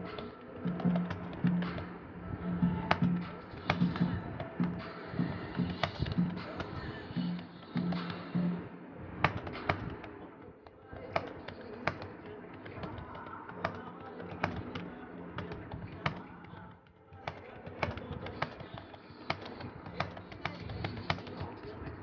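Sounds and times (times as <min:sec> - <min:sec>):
background music: 0:00.0 - 0:22.0
faint background voices: 0:00.0 - 0:22.0
keyboard typing: 0:00.0 - 0:22.0.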